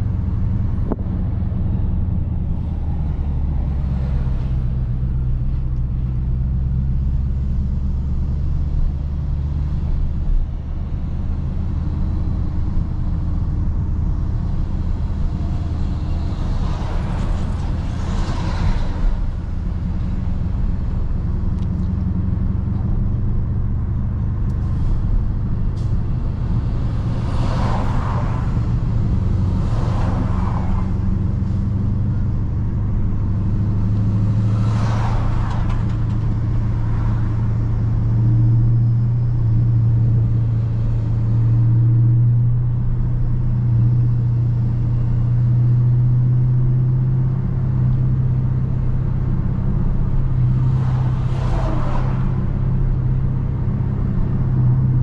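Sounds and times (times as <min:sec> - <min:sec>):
car engine exhaust rumble: 0:00.0 - 0:55.0.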